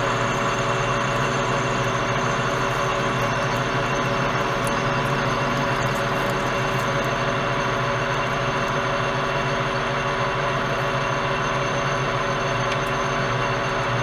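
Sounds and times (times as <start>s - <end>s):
metal lathe running: 0.0s - 14.0s.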